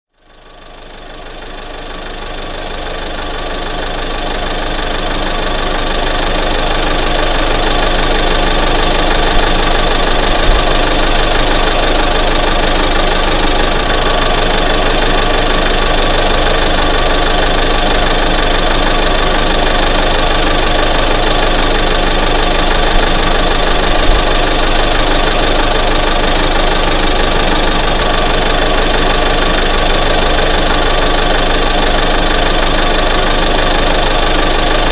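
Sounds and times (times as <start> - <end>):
pickup engine idling: 0.2 - 34.9.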